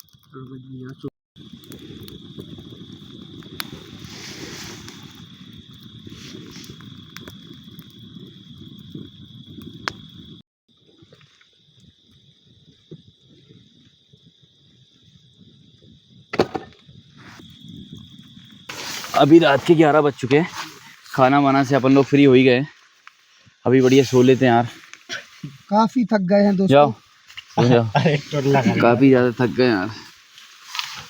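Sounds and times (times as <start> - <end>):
bonfire crackling and popping: 0.0 - 31.0
night insects trilling: 0.3 - 31.0.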